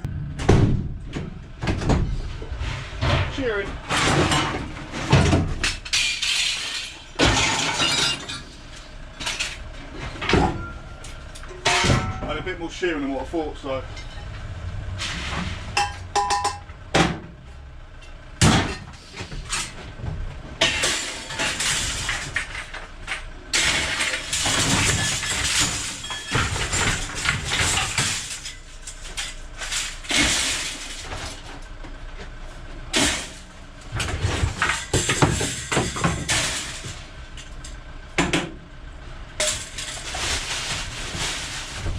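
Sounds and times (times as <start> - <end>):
scrap steel clanging onto pile: 1.8 - 12.6, 13.6 - 17.3, 20.6 - 37.9, 39.3 - 41.9.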